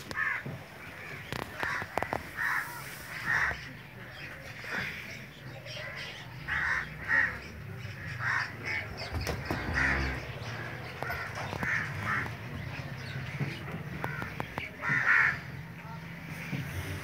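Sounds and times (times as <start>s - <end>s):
birds calling harshly: 0.0s - 17.0s.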